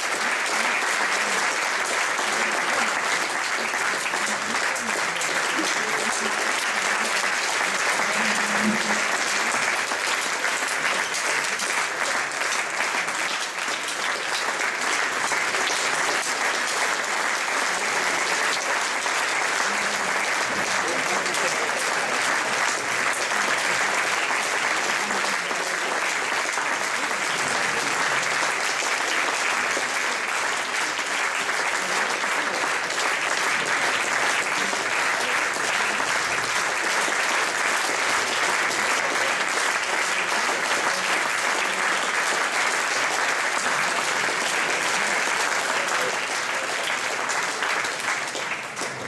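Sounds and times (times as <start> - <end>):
audience applauding: 0.0 - 49.0.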